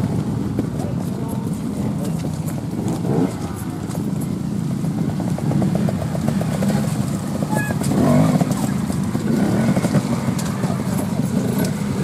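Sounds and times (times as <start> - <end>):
motorcycle engine revving: 2.0 - 12.0.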